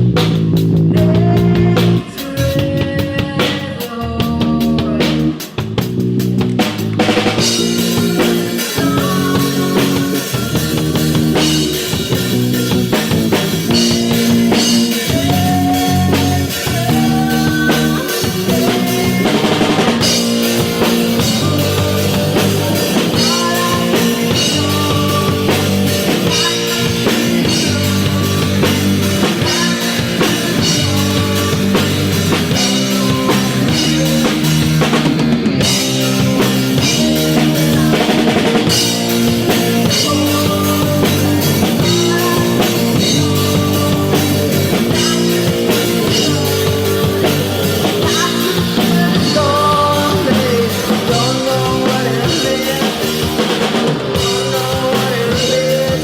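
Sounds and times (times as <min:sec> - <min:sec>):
drum kit beat: 0:00.0 - 0:56.0
instrumental rock band: 0:00.0 - 0:56.0.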